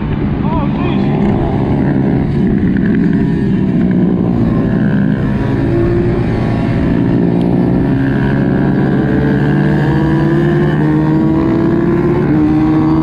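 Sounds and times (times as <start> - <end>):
dirt bike engine revving: 0.8 - 13.0.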